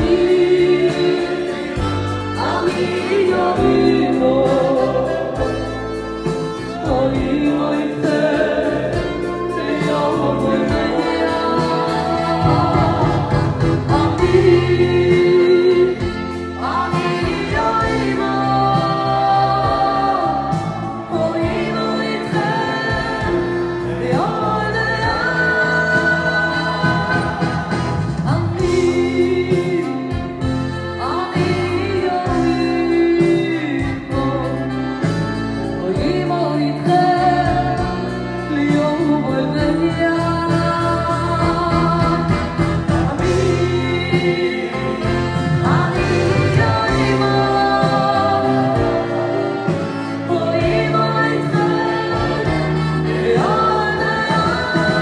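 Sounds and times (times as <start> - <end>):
band with trumpets: 0.0 - 55.0.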